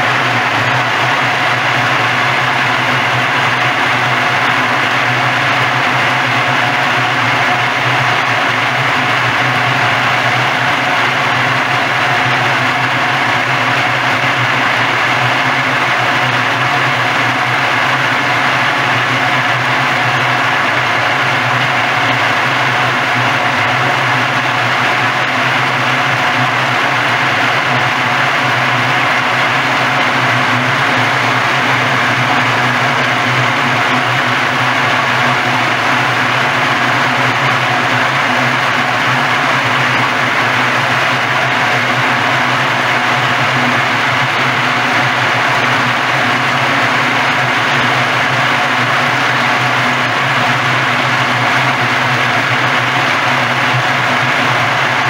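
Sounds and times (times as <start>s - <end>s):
constant rushing noise: 0.0s - 55.0s
machine motor hum: 0.0s - 55.0s.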